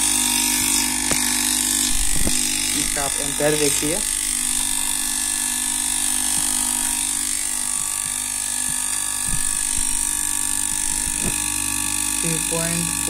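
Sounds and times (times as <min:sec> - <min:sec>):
air conditioner compressor humming: 0:00.0 - 0:13.0.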